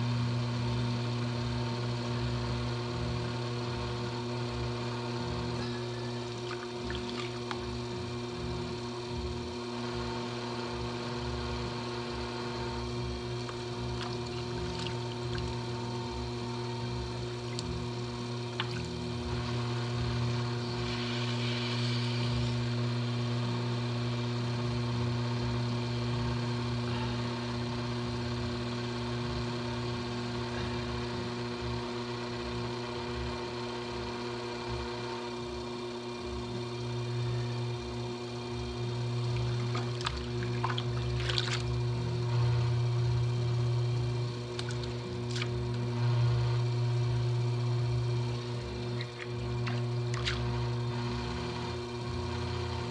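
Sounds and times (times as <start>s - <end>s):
potter's wheel humming: 0.0s - 52.9s.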